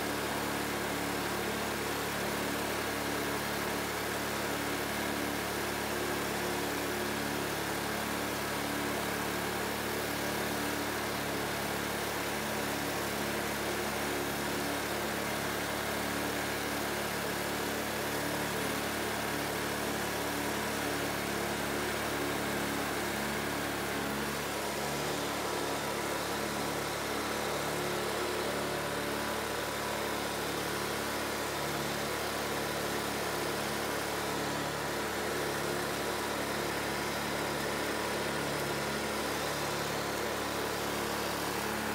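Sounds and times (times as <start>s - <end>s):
ride-on mower engine running: 0.0s - 41.9s.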